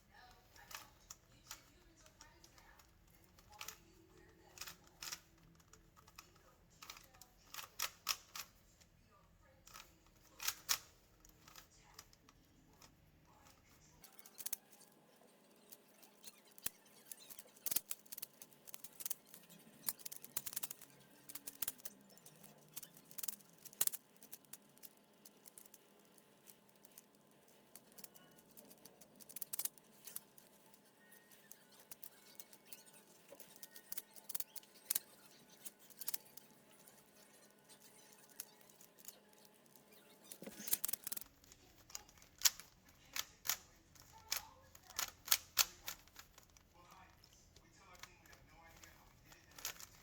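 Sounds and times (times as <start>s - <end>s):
plastic puzzle cube clicking: 0.2s - 8.6s, 9.7s - 50.0s.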